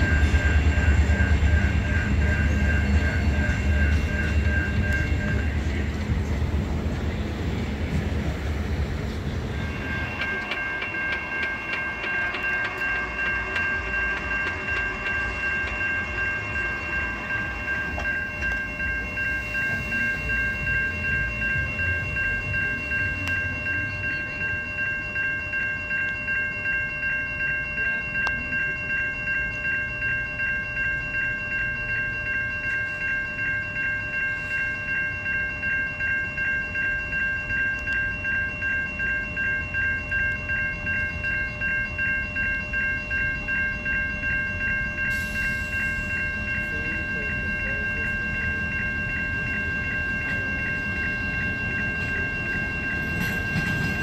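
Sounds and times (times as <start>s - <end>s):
passing train rumble: 0.0s - 54.0s
railroad crossing bell ringing: 0.0s - 54.0s.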